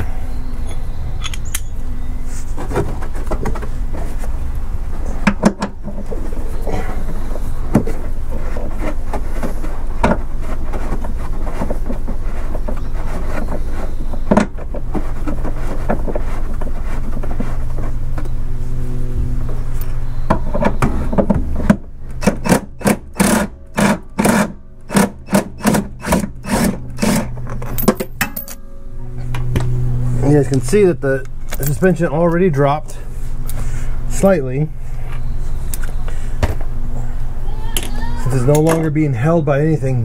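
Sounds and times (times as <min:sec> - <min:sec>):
steady low rumble: 0:00.0 - 0:12.6, 0:14.6 - 0:37.7.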